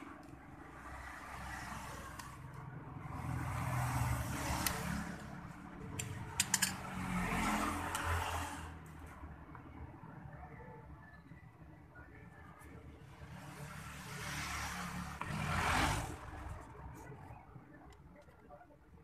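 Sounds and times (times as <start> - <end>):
passing motor vehicles rumble: 0.0 - 19.0.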